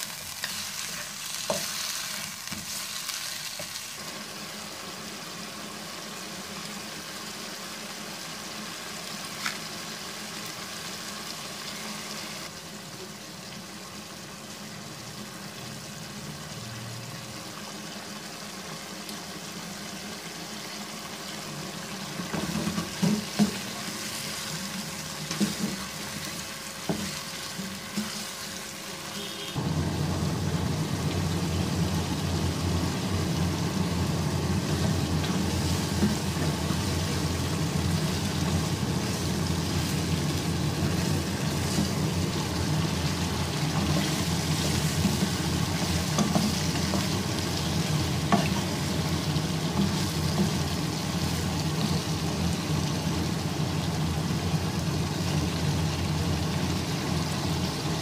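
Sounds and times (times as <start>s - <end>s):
meat sizzling in oil: 0.0s - 58.0s.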